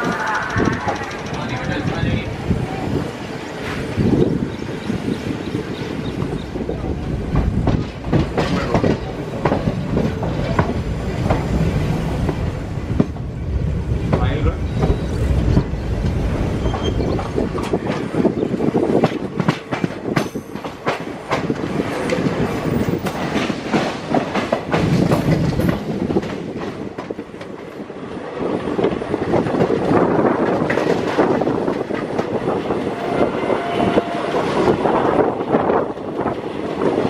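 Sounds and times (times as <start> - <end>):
train wheels clickety-clack: 0.0 - 2.6, 3.5 - 37.0.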